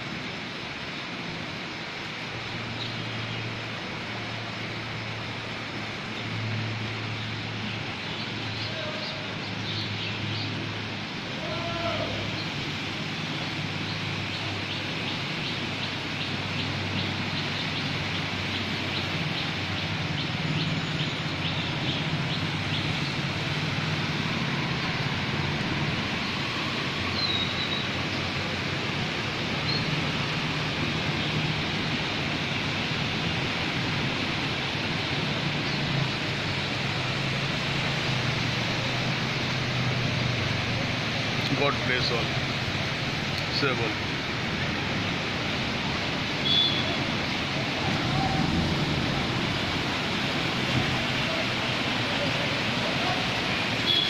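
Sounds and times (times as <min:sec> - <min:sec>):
rain falling on flooded street: 0:00.0 - 0:54.0
vehicle engines humming: 0:00.0 - 0:54.0.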